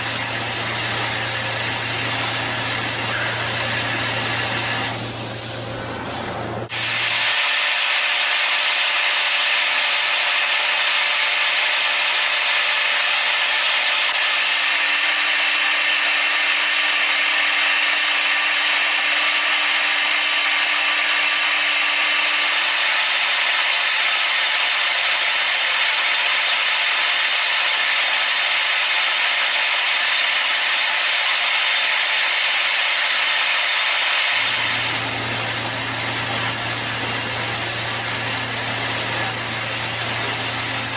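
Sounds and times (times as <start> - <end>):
machine tool running: 0.0 - 40.9.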